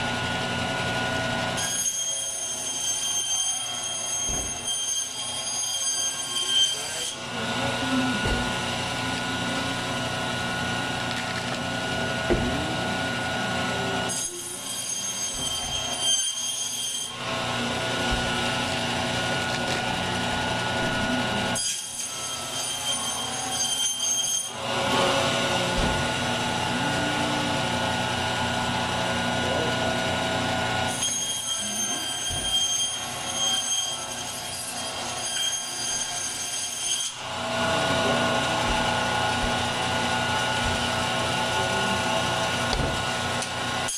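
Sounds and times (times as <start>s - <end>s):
bandsaw whining through bone: 0.0s - 43.9s.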